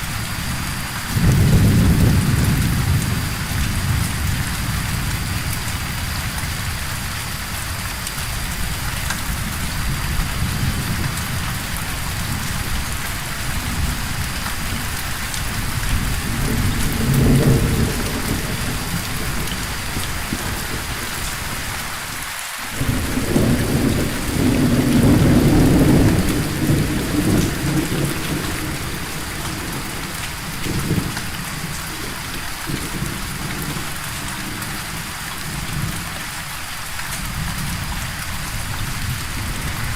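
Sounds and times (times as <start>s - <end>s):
thunder rolling: 0.0s - 21.7s, 22.7s - 36.0s
steady rain: 0.0s - 39.9s.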